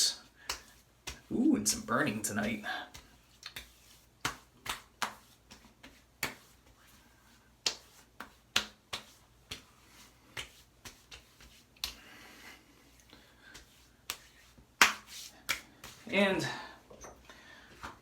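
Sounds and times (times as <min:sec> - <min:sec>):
hands slapping skin: 0:00.2 - 0:12.2, 0:13.0 - 0:16.1.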